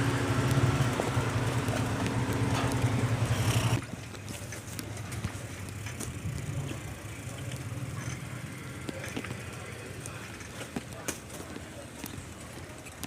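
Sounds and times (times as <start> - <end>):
motor engine humming: 0.0 - 11.6.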